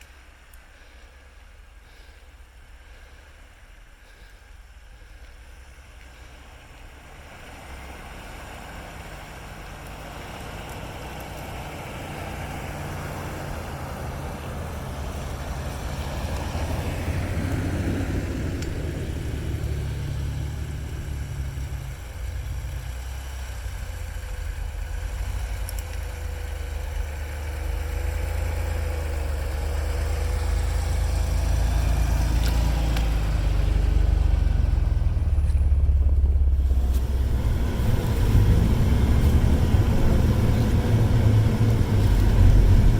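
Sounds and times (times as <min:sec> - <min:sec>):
off-road vehicle engine rumbling: 0:00.0 - 0:42.9.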